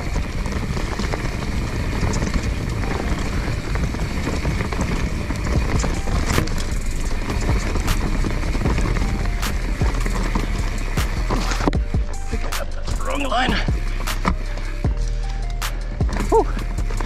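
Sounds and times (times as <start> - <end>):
bike knocking on roots: 0.0 - 17.0
bike rattling: 0.0 - 17.0
bike tyres rumbling over dirt: 0.0 - 17.0.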